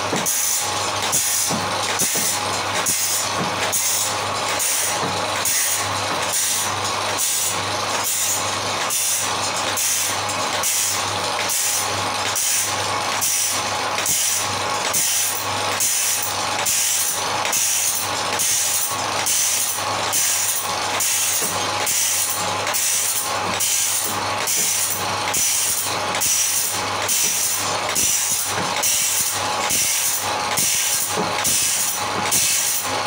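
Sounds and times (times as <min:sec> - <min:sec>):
electric motor hum: 0:00.0 - 0:33.0
grinding wheel on saw teeth: 0:00.0 - 0:33.0.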